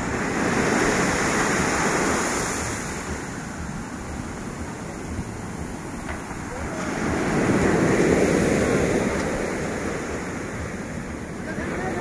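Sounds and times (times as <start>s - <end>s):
wave breaking on sandy beach: 0.0s - 12.0s.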